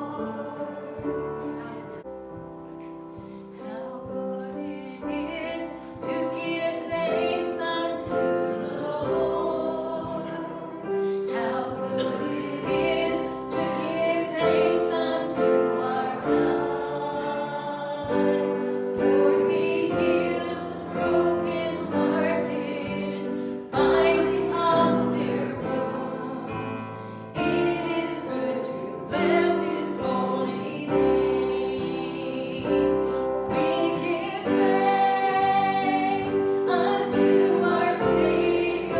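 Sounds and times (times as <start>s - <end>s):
congregation singing a hymn: 0.0s - 38.9s
instrumental accompaniment: 0.0s - 38.9s.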